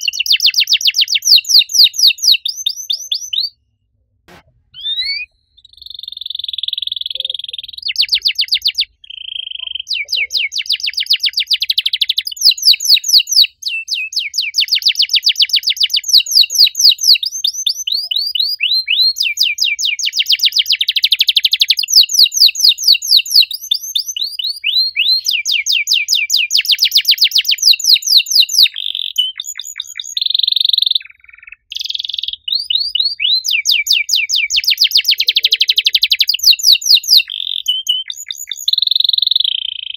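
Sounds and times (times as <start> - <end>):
canary singing trills: 0.0 - 3.6, 4.3 - 39.9.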